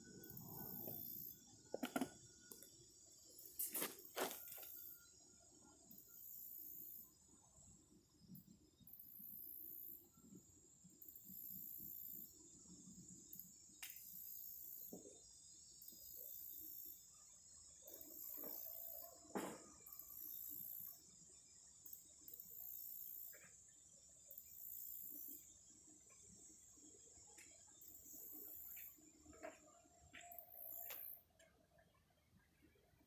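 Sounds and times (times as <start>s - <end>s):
insect trills: 0.0s - 32.0s
insects buzzing: 0.0s - 33.0s.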